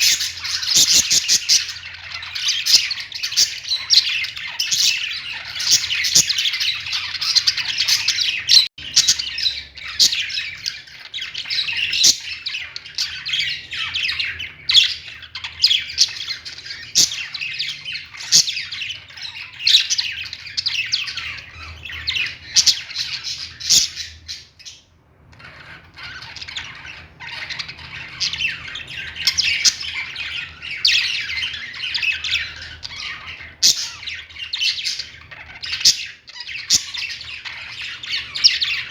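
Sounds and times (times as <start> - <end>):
birds squawking and chirping: 0.0 - 38.9.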